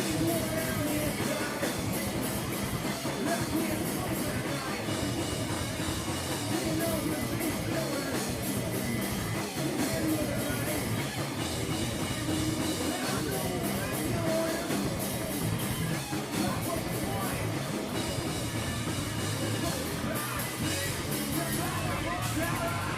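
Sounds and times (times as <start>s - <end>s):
drum kit beat: 0.0s - 22.9s
live rock band playing: 0.0s - 22.9s.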